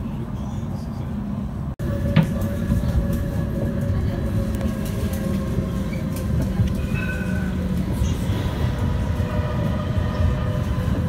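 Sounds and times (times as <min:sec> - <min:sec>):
tram wheels rumbling on rail: 0:00.0 - 0:11.0.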